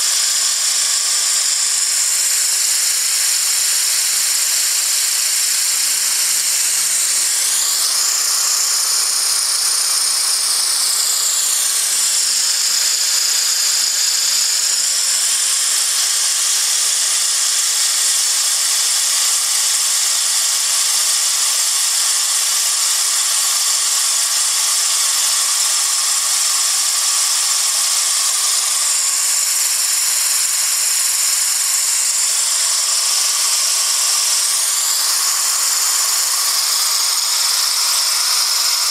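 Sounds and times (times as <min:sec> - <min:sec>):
compressed air hissing: 0:00.0 - 0:15.9, 0:23.0 - 0:38.9.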